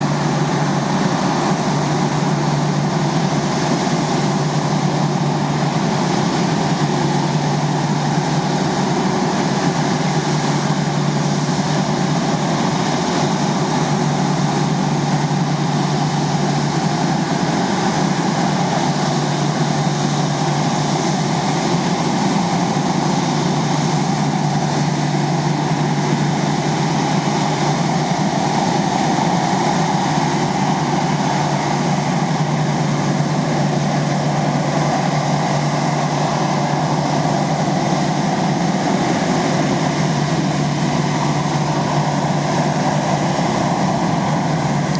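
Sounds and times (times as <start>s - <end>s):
jet engine idling: 0.0s - 44.9s.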